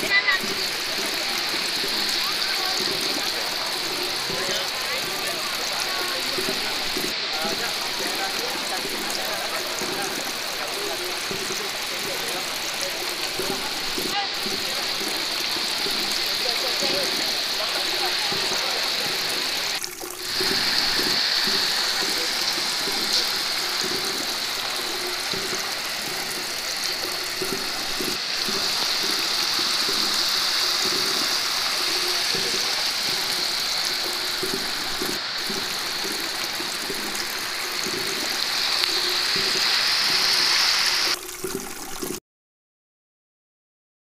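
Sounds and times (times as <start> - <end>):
fountain water splashing: 0.0 - 42.2.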